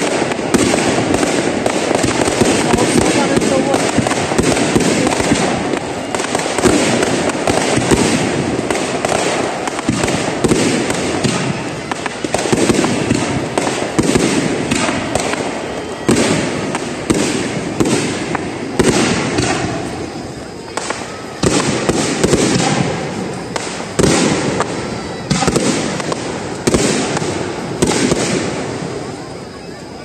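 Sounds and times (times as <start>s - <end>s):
fireworks booming and crackling: 0.0s - 30.0s.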